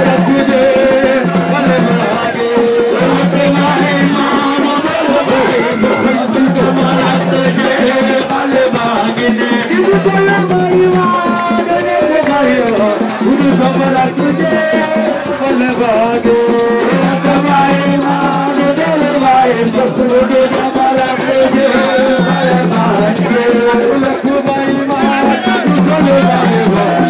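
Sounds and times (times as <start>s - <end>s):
person singing: 0.0s - 27.0s
repeating bass line: 0.0s - 27.0s
shaker rhythm: 0.0s - 27.0s.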